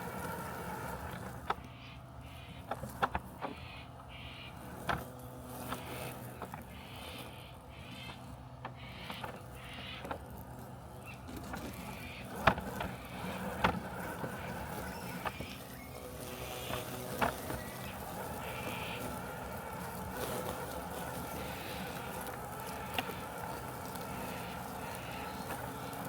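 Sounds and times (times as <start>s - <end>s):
robotic lawn mower humming: 0.0s - 26.0s.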